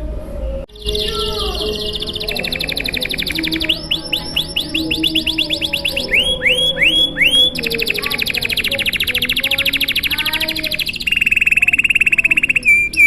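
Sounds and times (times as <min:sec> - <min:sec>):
canary singing: 0:00.7 - 0:13.0.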